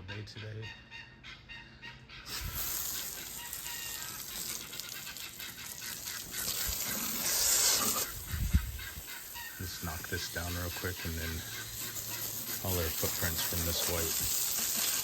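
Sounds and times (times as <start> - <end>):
hose water spraying on ground: 2.3 - 15.0.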